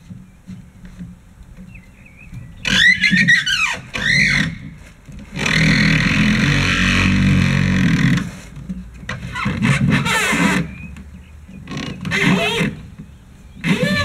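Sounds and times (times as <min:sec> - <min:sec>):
wooden hull scraping over bars: 0:00.0 - 0:14.0.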